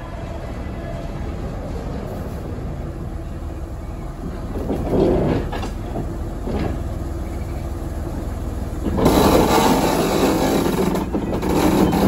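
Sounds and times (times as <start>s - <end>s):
diesel locomotive engine throbbing: 0.0s - 12.0s.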